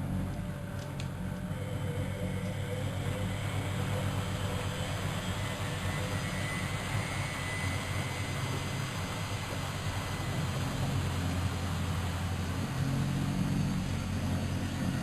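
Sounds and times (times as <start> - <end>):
faint high whine: 0.0 - 15.0
low motor hum: 0.0 - 15.0
washing machine rushing: 0.0 - 15.0.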